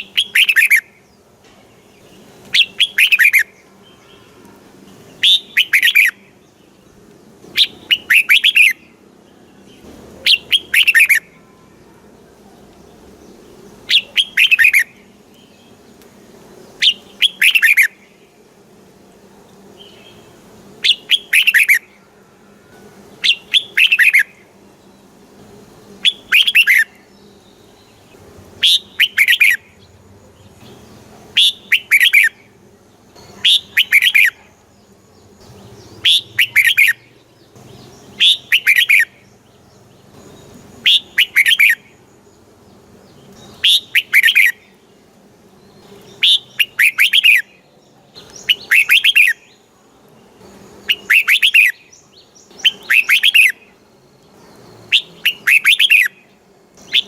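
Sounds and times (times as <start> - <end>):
bulbul singing: 0.0 - 57.0.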